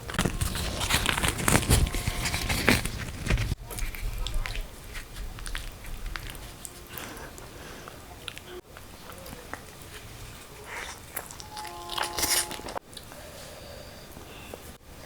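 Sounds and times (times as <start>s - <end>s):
close-miked chewing: 0.0s - 14.8s.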